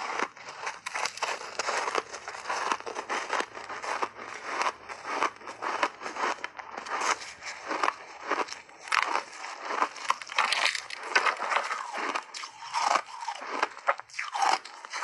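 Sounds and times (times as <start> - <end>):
ice chunks crunching when chewed: 0.0 - 15.0.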